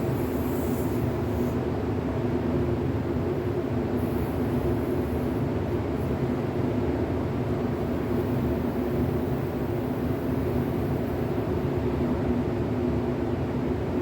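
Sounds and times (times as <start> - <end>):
ventilation machine drone: 0.0 - 14.0.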